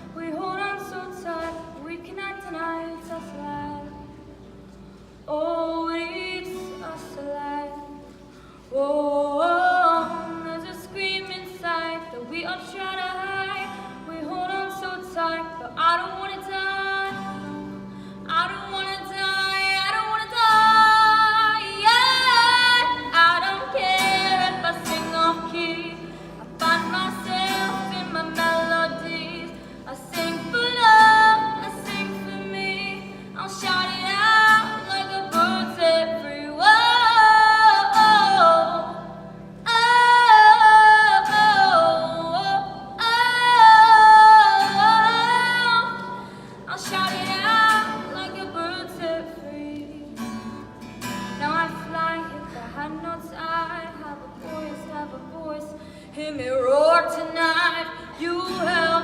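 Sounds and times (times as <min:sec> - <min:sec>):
woman singing with vibrato: 0:00.0 - 0:04.4, 0:05.2 - 0:59.0.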